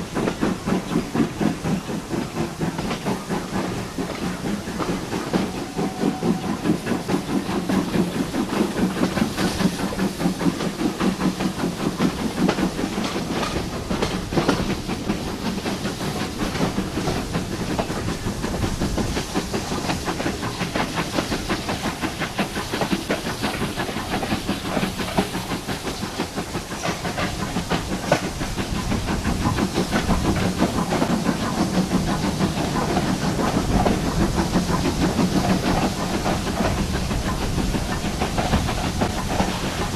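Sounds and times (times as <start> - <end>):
train engine hum: 0.0 - 39.9
train wheels clattering on track: 0.0 - 39.9.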